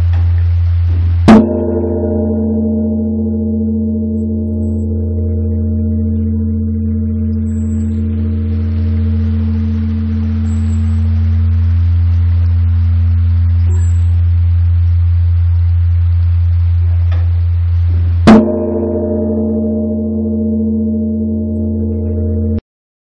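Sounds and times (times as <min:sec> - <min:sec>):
large bronze bell ringing: 0:00.0 - 0:22.6
bell being struck: 0:01.0 - 0:15.4, 0:18.2 - 0:22.6.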